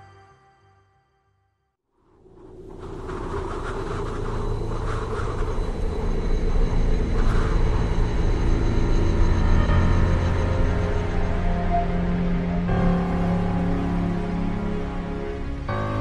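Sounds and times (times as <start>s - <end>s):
deep steady rumble: 2.0s - 16.0s
sustained tones: 2.2s - 16.0s.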